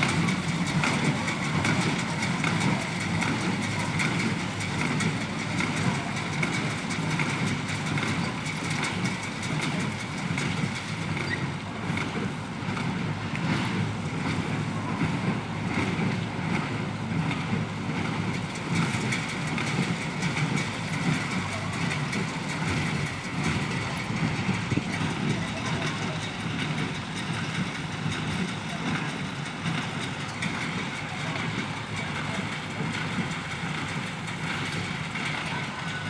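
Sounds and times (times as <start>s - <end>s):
tractor engine running under load: 0.0s - 36.0s.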